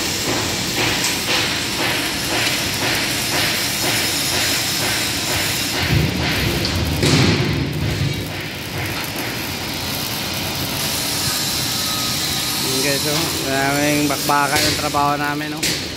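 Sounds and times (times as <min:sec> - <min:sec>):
arc welding hiss: 0:00.0 - 0:15.9
low rumbling machine noise: 0:00.0 - 0:15.9.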